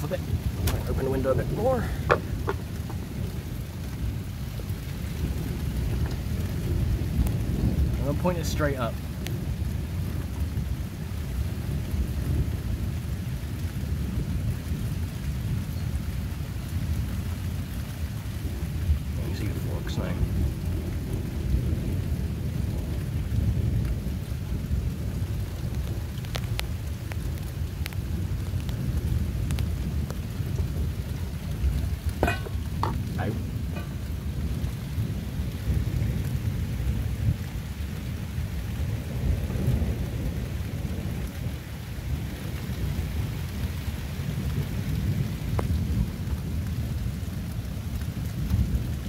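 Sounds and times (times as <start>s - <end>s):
steady rain: 0.0s - 49.0s
thunder rumbling: 0.0s - 49.0s.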